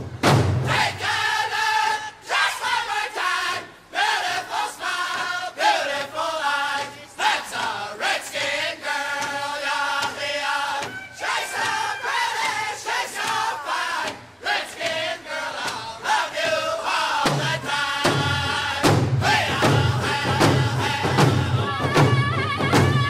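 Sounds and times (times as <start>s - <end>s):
group singing chant-like chorus: 0.6s - 23.0s.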